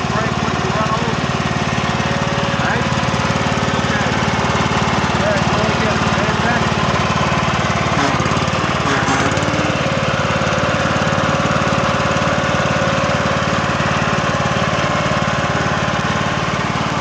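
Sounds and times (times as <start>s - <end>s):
riding lawn mower engine running: 0.0s - 17.0s.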